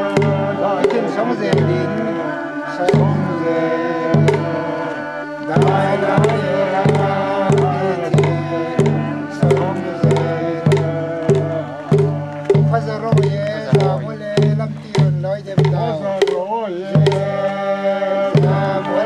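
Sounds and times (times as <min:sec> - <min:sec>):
deep hand-drum beat: 0:00.0 - 0:02.2, 0:02.8 - 0:04.7, 0:05.5 - 0:17.4, 0:18.4 - 0:19.0
group singing: 0:00.0 - 0:19.0.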